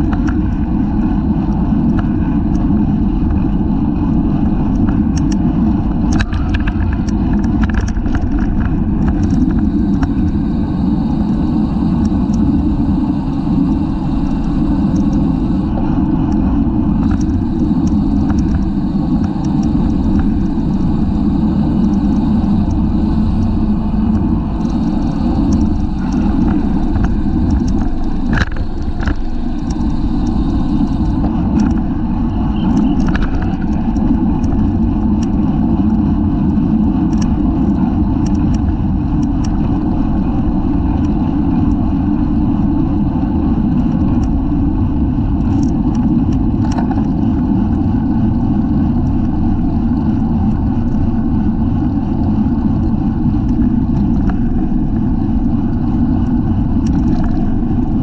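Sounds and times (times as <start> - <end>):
bicycle road noise: 0.0 - 58.0.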